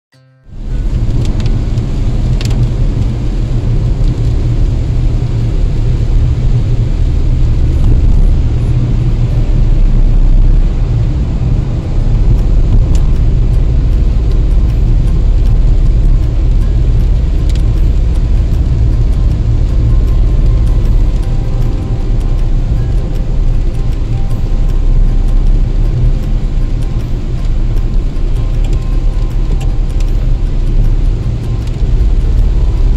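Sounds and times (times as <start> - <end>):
car driving on wet road: 0.5 - 32.9.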